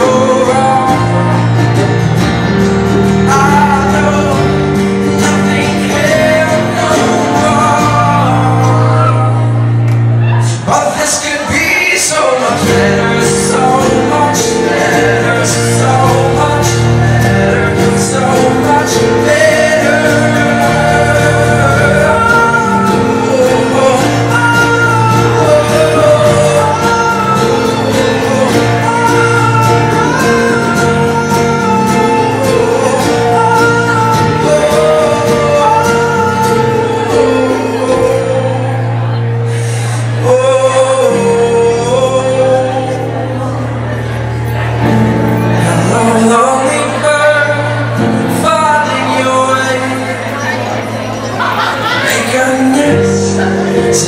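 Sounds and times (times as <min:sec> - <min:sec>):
live band playing: 0:00.0 - 0:54.0
person singing: 0:00.0 - 0:54.0.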